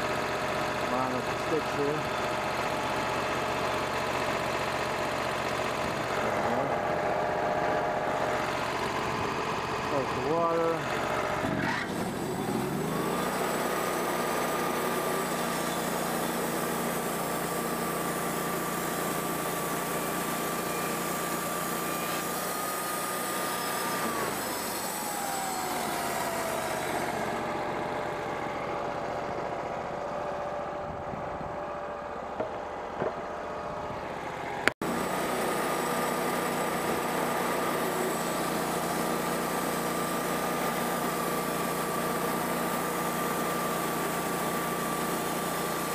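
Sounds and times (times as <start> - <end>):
band sawmill whine: 0.0 - 45.9.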